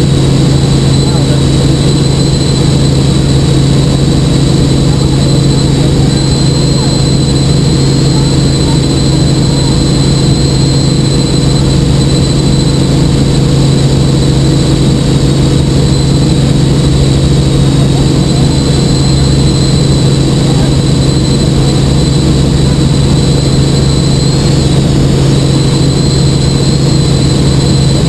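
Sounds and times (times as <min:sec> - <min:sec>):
helicopter rotor and engine drone: 0:00.0 - 0:28.0
high-pitched whine: 0:00.0 - 0:28.0.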